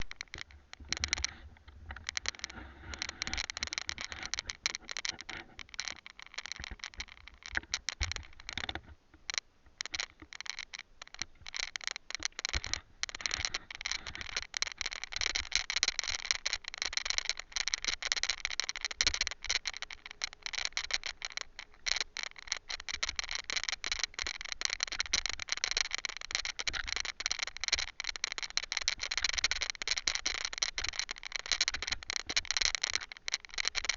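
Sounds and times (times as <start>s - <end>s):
camera rattling and clattering: 0.0s - 33.9s.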